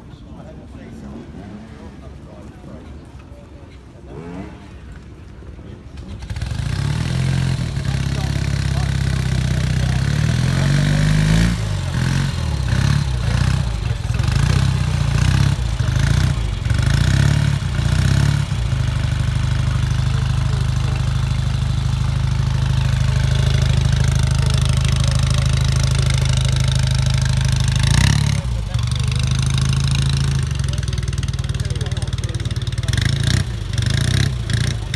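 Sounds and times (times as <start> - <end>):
motorcycle engine revving and idling: 4.0 - 5.1, 5.8 - 34.9.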